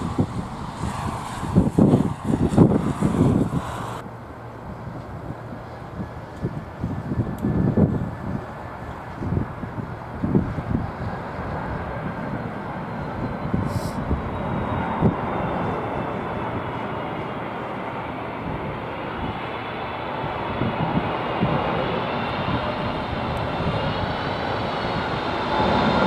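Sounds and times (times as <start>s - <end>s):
jet engines rumbling: 0.0s - 26.0s
wind buffeting microphone: 0.0s - 26.0s.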